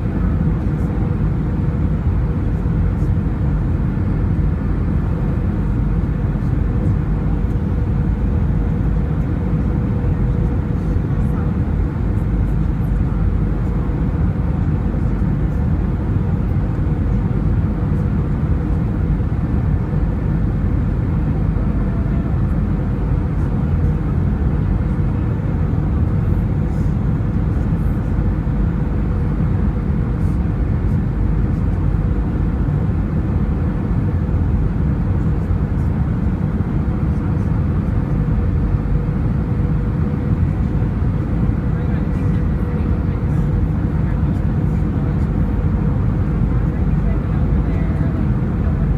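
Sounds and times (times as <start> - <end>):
airliner cabin engine rumble: 0.0 - 48.9.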